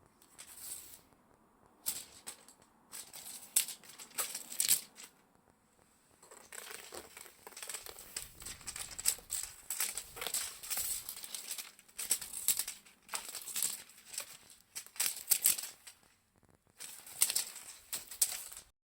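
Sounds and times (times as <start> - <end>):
cat toy crinkling and rustling: 0.1 - 18.7.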